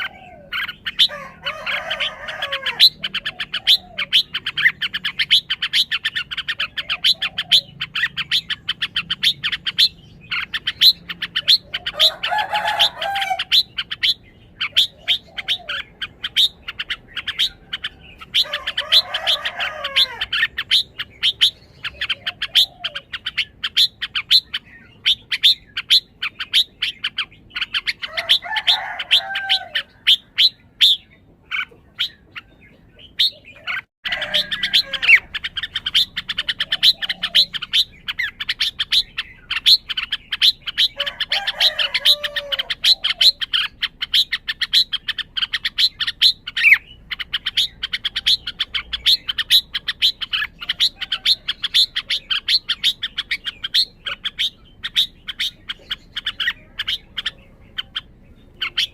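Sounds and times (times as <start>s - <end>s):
lower warbled bird phrases: 0.0s - 58.9s.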